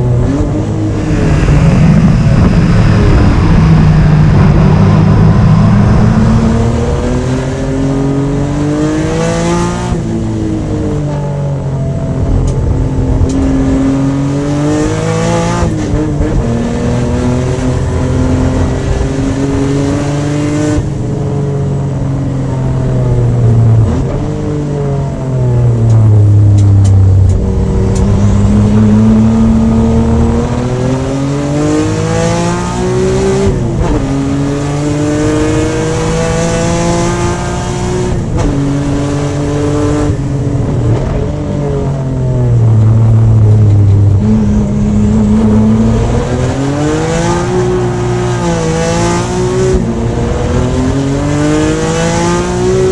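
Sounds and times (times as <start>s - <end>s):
car engine at full throttle: 0.0s - 52.9s.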